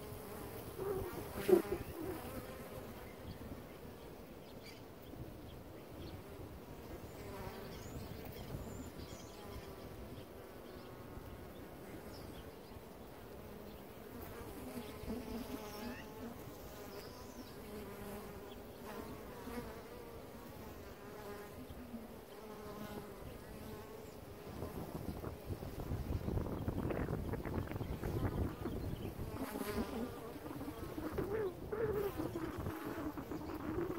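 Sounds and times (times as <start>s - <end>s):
honeybees buzzing: 0.0s - 33.9s.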